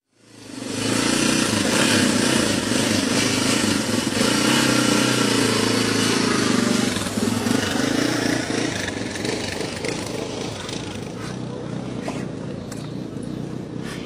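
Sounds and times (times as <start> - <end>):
motorcycle engine running: 0.1 - 14.0.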